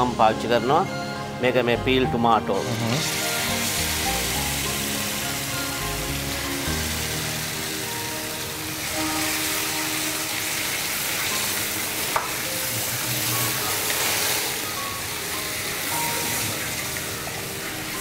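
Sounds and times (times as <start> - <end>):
food sizzling in a pan: 2.6 - 18.0.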